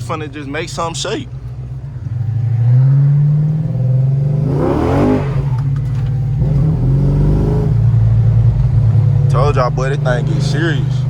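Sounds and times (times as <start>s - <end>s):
car engine accelerating hard: 0.0s - 11.0s
low exhaust drone: 0.0s - 11.0s.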